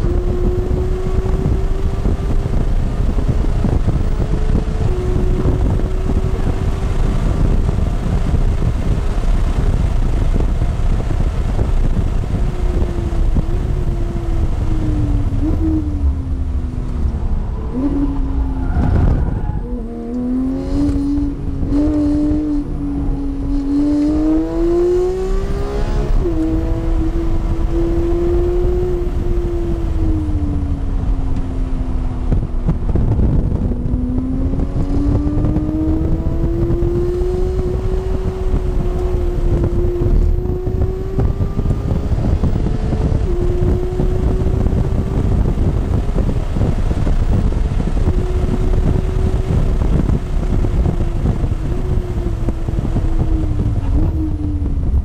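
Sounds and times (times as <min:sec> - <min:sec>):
car engine at speed: 0:00.0 - 0:55.0
road and wind roar: 0:00.0 - 0:55.0.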